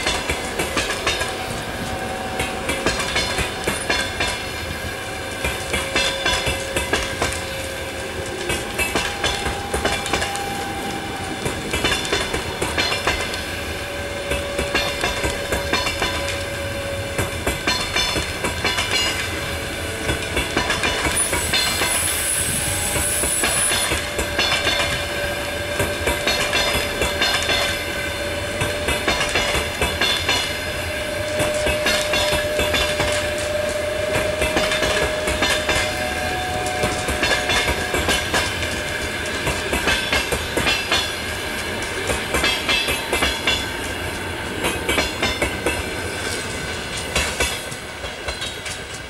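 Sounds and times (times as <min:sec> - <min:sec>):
train rumble: 0:00.0 - 0:49.0
train wheels clicking over rail joints: 0:00.0 - 0:49.0.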